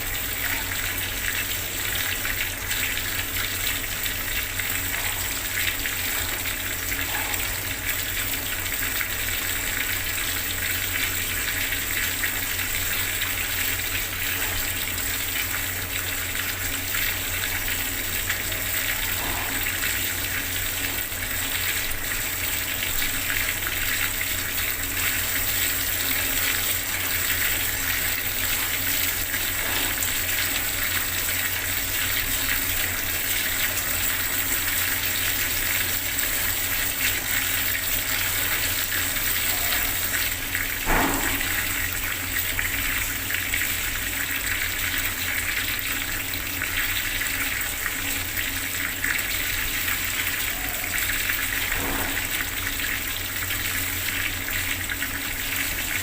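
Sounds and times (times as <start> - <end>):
water tap running: 0.0 - 56.0.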